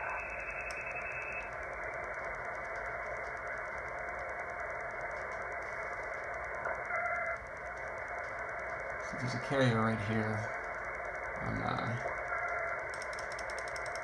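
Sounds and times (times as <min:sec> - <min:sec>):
radio static hiss: 0:00.0 - 0:13.8.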